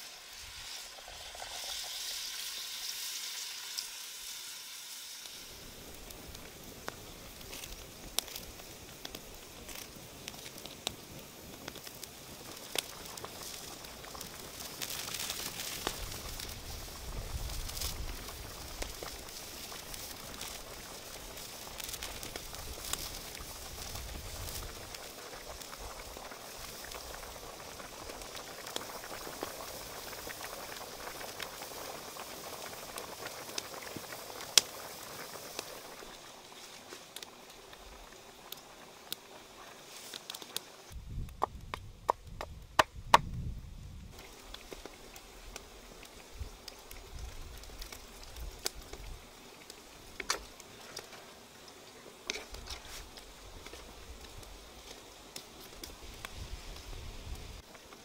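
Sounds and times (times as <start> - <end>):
curry bubbling and popping: 5.2 - 58.0.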